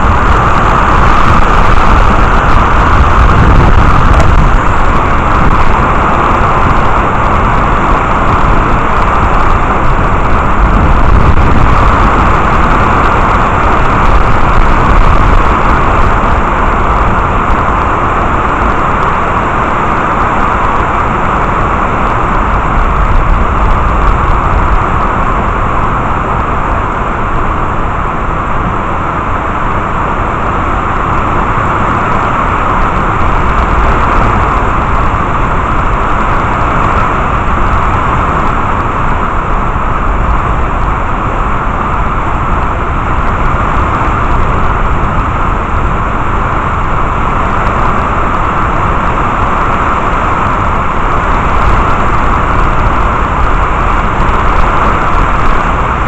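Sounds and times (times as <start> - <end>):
heavy rain: 0.0 - 56.0
wind rumbling on microphone: 0.0 - 56.0.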